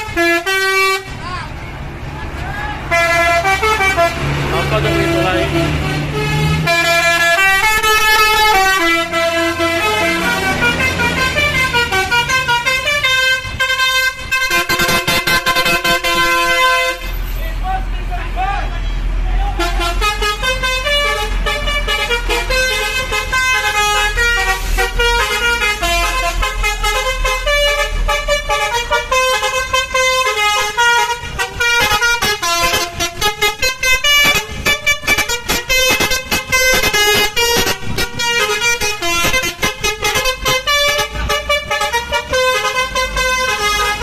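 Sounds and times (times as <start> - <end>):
multi-tone bus horn tune: 0.0 - 1.2, 2.8 - 17.4, 18.8 - 44.0.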